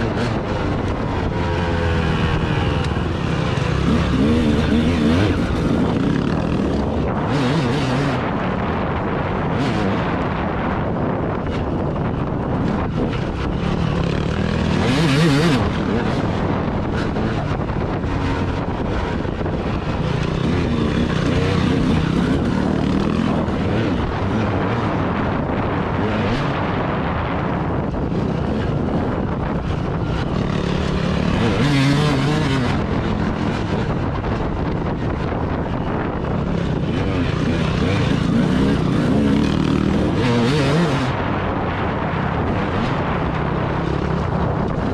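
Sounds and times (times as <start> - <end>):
engine running: 0.0 - 44.9
wind buffeting microphone: 0.0 - 44.9.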